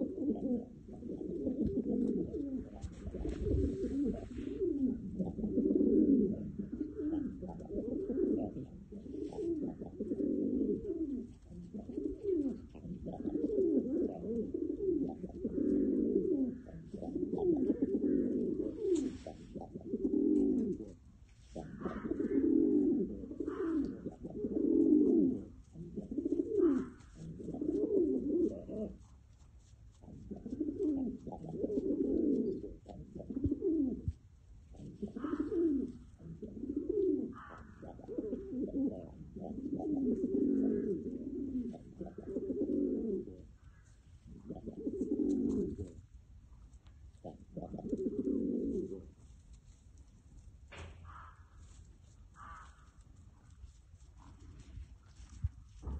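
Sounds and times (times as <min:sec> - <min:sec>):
pigeons cooing: 0:00.0 - 0:29.2, 0:29.9 - 0:46.2, 0:46.8 - 0:49.8, 0:50.7 - 0:53.6, 0:54.2 - 0:55.9.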